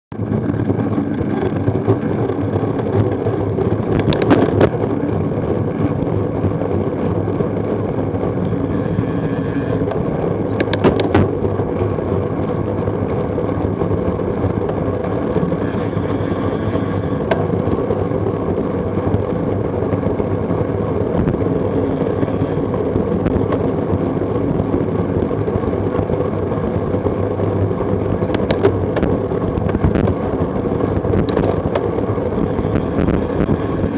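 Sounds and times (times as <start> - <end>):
road rumble: 0.1 - 33.9
wind rush on microphone: 0.1 - 33.9.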